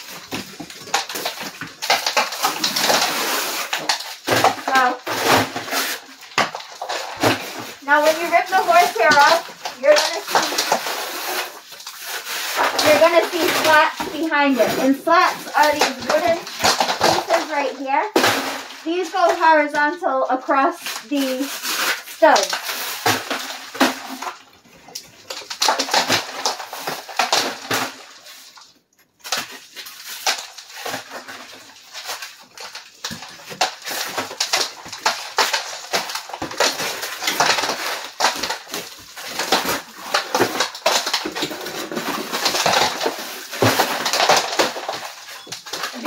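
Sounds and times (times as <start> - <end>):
plaster cracking and falling: 0.0 - 19.5, 20.8 - 46.0.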